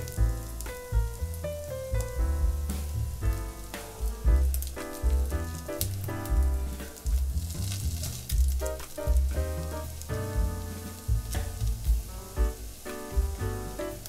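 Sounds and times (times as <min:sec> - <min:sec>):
background music with bass line: 0:00.0 - 0:14.0
food sizzling in hot oil: 0:00.0 - 0:14.0.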